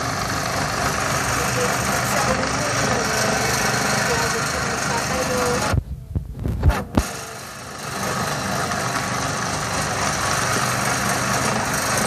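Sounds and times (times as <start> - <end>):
mechanical hum and whir: 0.0 - 12.0.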